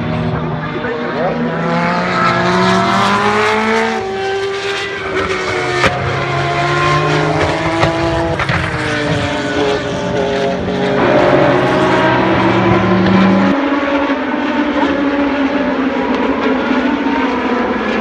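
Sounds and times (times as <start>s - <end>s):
racing car engines: 0.0s - 18.0s.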